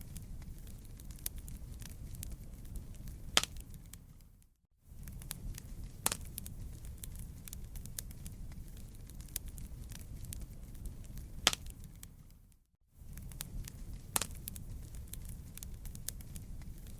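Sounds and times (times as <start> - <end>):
sharp fire pops: 0.0 - 4.3, 4.9 - 12.4, 13.0 - 16.9
campfire crackling: 0.0 - 16.9.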